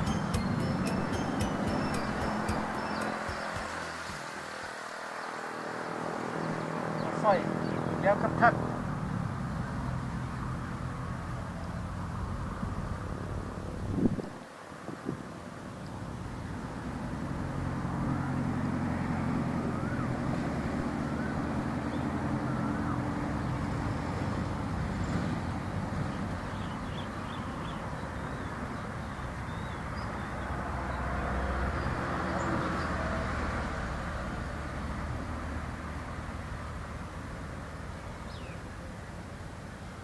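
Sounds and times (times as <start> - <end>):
traffic passing: 0.0 - 40.0.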